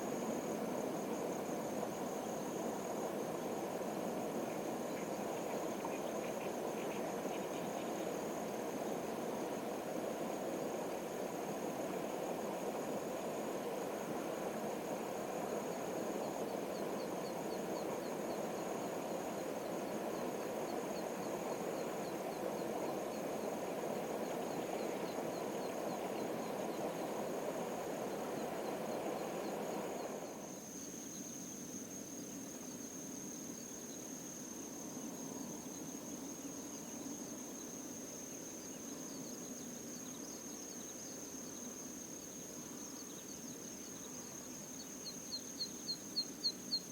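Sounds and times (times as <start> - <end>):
high-pitched insect trill: 0.0 - 46.9.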